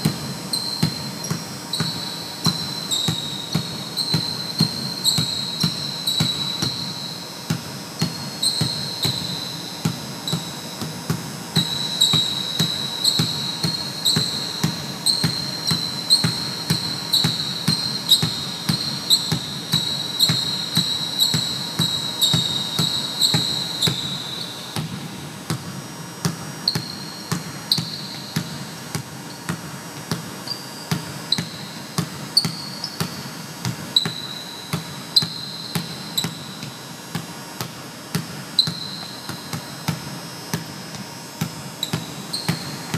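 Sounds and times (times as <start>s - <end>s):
basketball bouncing on wooden floor: 0.0s - 42.9s
sneakers squeaking: 0.0s - 42.9s.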